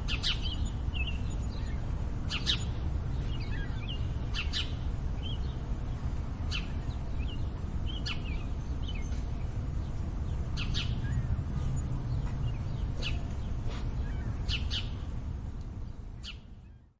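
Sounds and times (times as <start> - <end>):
low urban rumble: 0.0 - 16.9
songbirds chirping: 0.0 - 16.9.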